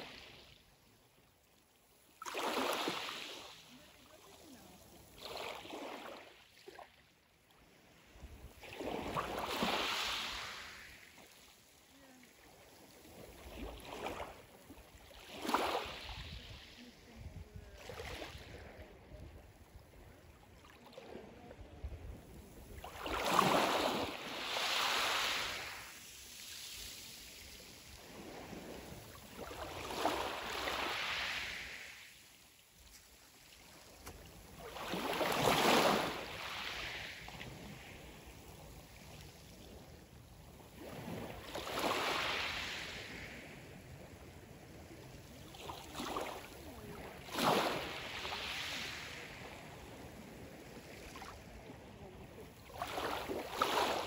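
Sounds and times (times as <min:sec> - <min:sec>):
waves washing onto pebbles: 0:01.9 - 0:06.6, 0:08.2 - 0:17.1, 0:22.2 - 0:54.0.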